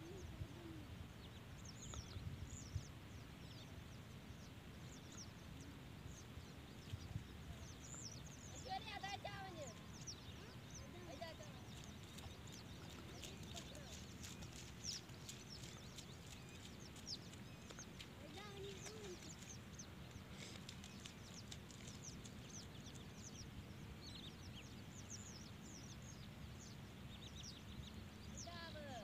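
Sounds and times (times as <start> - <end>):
low steady background rumble: 0.0 - 29.0
small birds chirping: 0.0 - 29.0.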